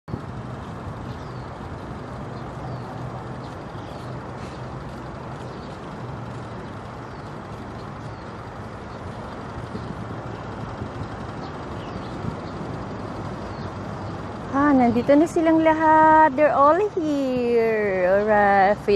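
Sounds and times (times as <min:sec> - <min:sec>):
traffic rumble: 0:00.0 - 0:18.9.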